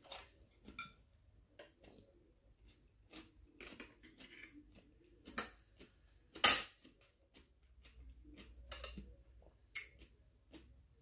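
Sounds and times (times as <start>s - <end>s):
quiet chewing: 0.0s - 11.0s.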